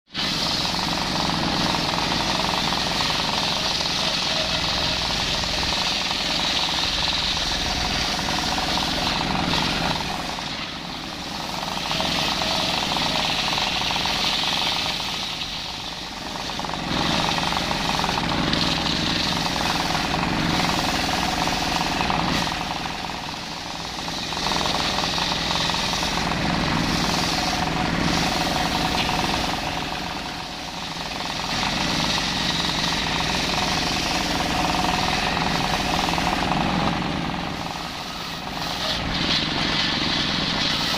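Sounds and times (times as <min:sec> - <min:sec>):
circular saw cutting timber: 0:00.0 - 0:40.9.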